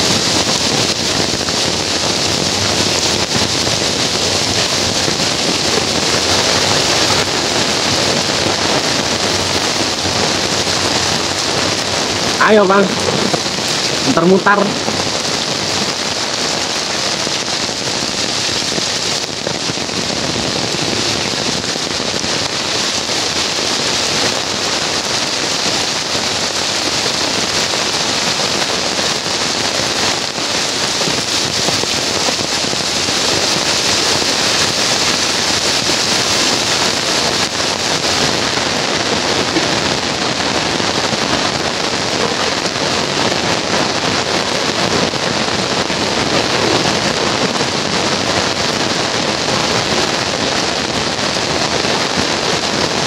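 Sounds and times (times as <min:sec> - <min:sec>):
heavy rain on concrete and leaves: 0:00.0 - 0:53.0.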